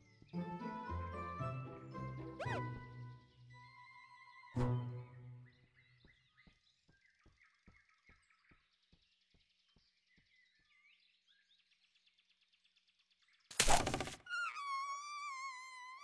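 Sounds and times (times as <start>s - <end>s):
faint bird chirps: 2.4s - 16.0s.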